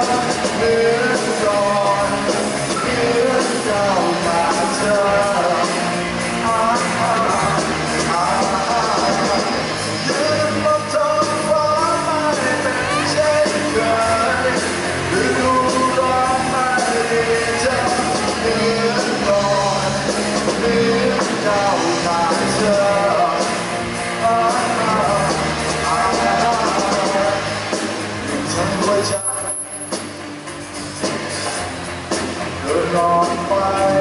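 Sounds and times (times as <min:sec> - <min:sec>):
man singing lead: 0:00.0 - 0:30.1, 0:32.6 - 0:34.0
drums: 0:00.0 - 0:34.0
electric guitar: 0:00.0 - 0:34.0.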